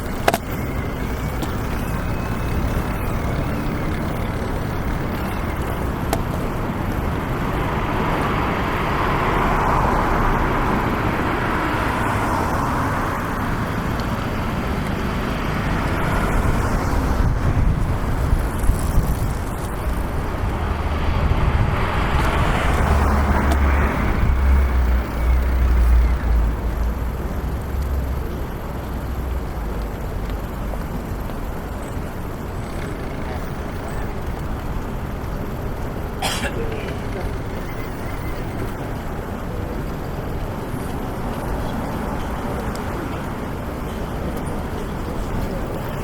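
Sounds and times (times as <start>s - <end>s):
cars passing on busy road: 0.0s - 46.0s.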